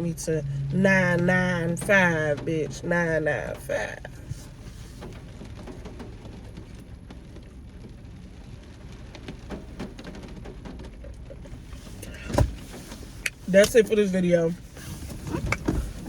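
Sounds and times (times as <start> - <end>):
low rumble: 0.0 - 16.0
rain hiss: 0.0 - 16.0
raindrops ticking: 0.0 - 16.0.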